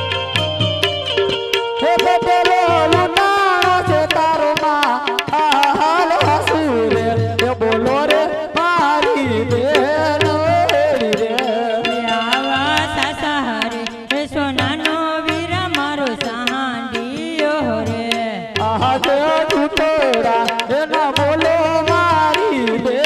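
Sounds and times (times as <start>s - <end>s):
drum accompaniment: 0.0s - 23.0s
sharp percussion strikes: 0.0s - 23.0s
person singing: 1.8s - 23.0s.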